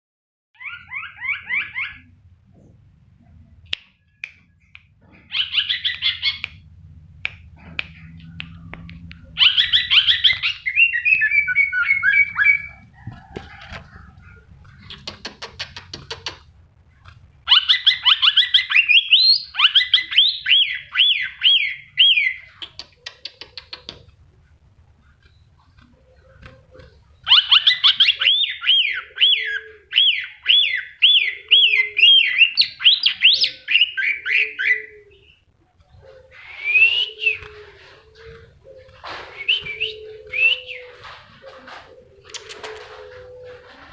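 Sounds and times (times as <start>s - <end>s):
faint low hum: 0.6s - 43.9s
songbird chirping: 0.6s - 43.9s.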